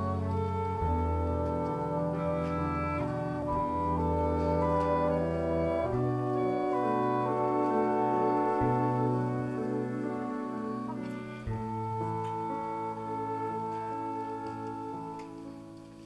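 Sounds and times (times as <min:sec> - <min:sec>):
pit band playing sustained chords: 0:00.0 - 0:16.0.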